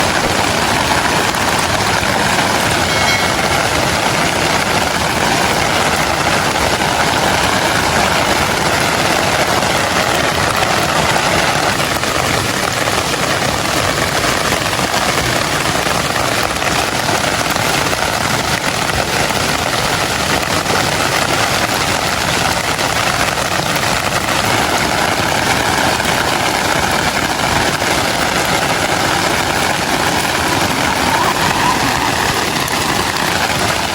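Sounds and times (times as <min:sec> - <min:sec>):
rushing flood water and rain: 0:00.0 - 0:33.9.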